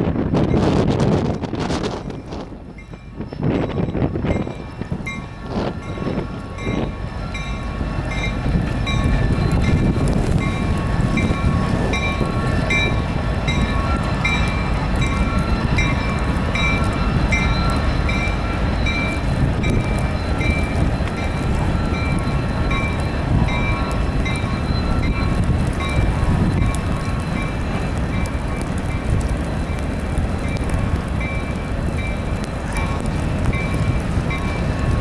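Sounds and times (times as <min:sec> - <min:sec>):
locomotive engine and wheel rumble: 0:00.0 - 0:35.0.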